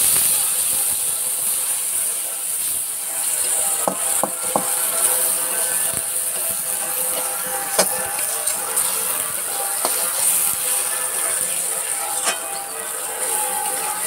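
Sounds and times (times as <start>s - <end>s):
spices sizzling in a wok: 0.0s - 14.0s
metal spatula scraping a pan: 1.9s - 14.0s.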